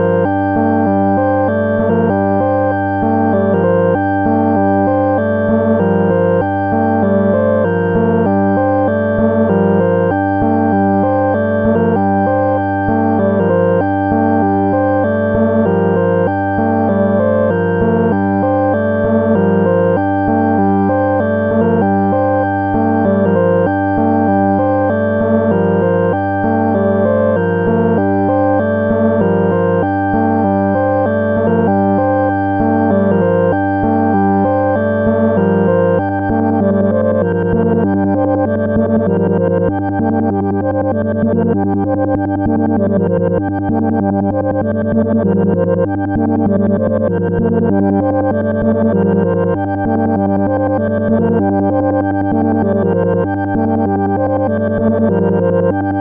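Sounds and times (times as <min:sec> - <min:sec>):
synthesizer sequencer pattern: 0:00.0 - 0:56.0.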